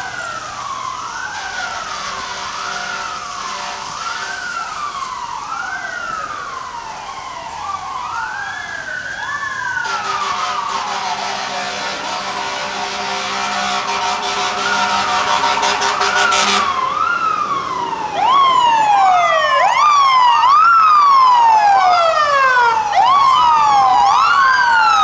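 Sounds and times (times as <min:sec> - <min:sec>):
fire engine siren wailing: 0:00.0 - 0:25.0
traffic on a wet street: 0:00.0 - 0:25.0.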